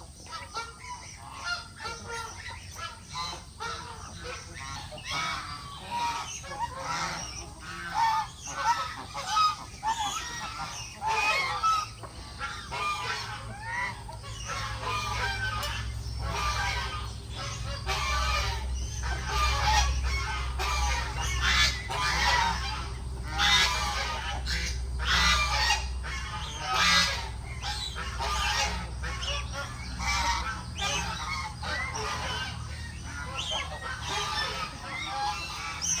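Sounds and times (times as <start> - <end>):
farm poultry: 0.0 - 36.0
geese honking: 0.0 - 36.0.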